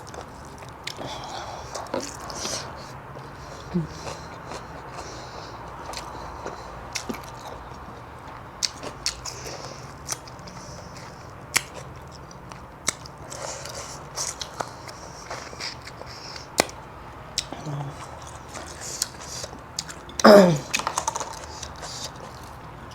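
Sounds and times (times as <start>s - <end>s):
person chewing: 0.0s - 22.9s.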